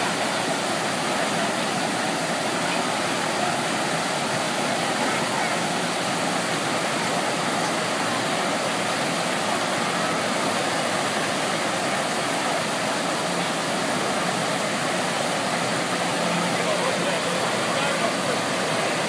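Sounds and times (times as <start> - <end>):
water rushing up a wave ride: 0.0 - 19.0.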